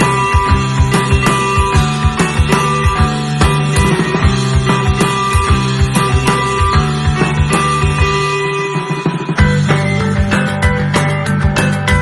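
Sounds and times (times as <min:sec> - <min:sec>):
guitar music over a beat: 0:00.0 - 0:12.0.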